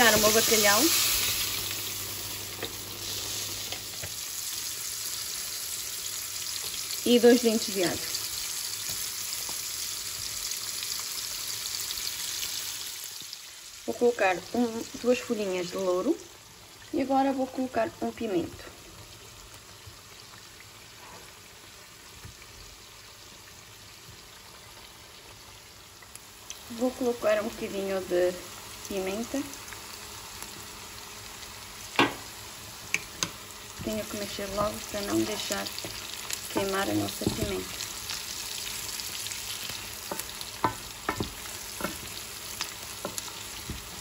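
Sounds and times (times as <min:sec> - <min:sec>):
oil sizzling in a frying pan: 0:00.0 - 0:44.0.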